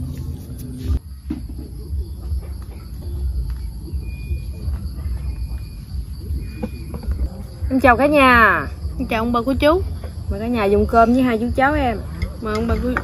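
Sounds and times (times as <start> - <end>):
insects chorus: 0.0 - 13.0
low outdoor rumble: 0.0 - 13.0.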